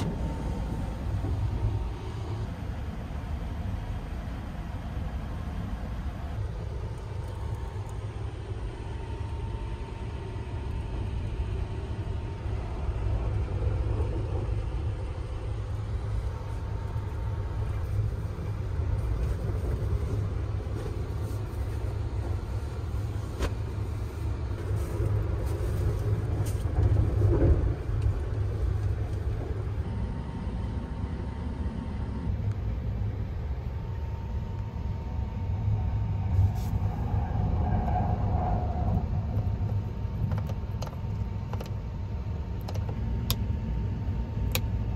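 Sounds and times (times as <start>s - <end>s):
train low rumble: 0.0s - 44.9s.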